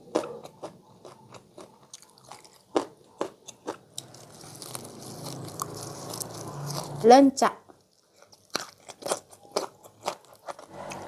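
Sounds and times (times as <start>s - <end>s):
soft chewing: 0.0s - 7.0s, 7.7s - 11.0s
crisp crunching bites: 1.0s - 7.0s, 7.8s - 11.0s.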